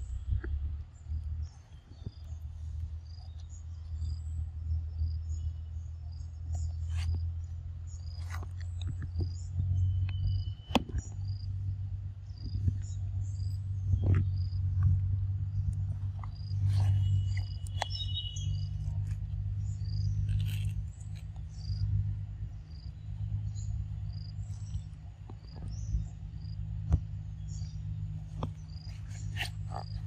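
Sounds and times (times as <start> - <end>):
steady low rumble: 0.0 - 30.0
insects chirping: 0.9 - 30.0
rustles: 5.7 - 30.0.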